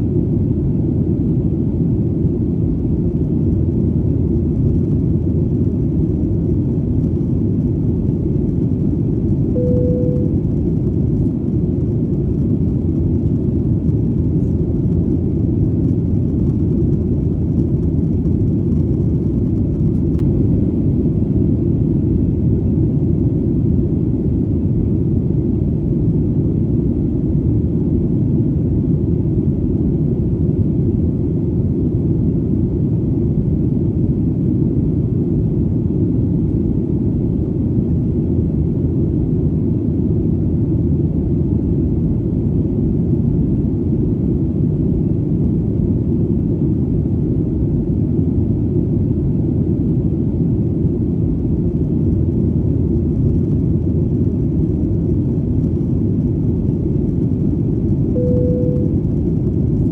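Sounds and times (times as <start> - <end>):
airplane engine rumble: 0.0 - 59.9.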